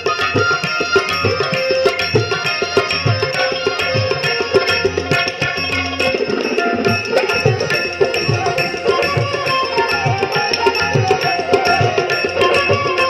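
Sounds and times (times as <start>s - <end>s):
bamboo flute melody: 0.0s - 13.0s.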